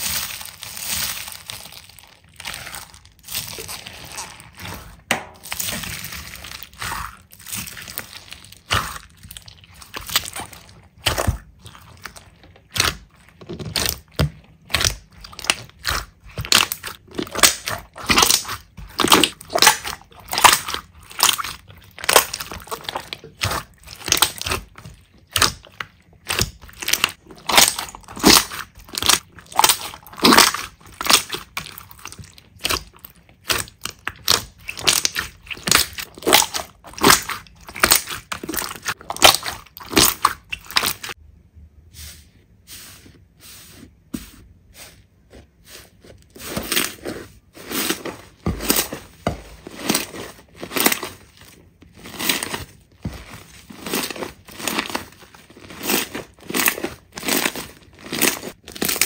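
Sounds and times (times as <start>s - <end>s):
slime squished by hand: 0.0s - 41.2s, 44.0s - 59.0s.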